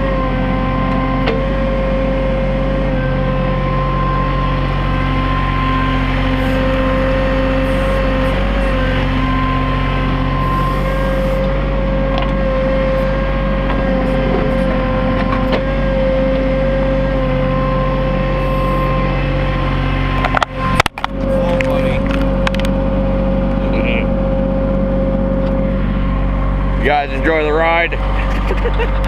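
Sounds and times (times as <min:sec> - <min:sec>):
steady high whine: 0:00.0 - 0:29.0
tractor diesel engine running: 0:00.0 - 0:29.0.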